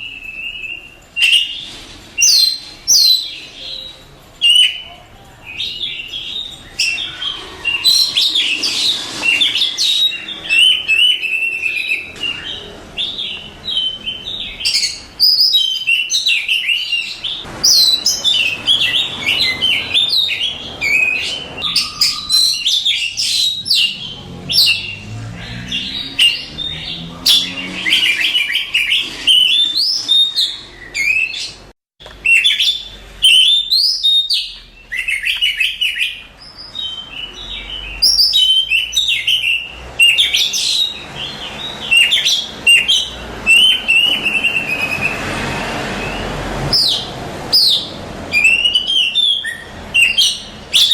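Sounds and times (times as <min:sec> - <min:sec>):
bird singing whistles and trills: 0:00.0 - 0:31.6, 0:32.2 - 0:50.9.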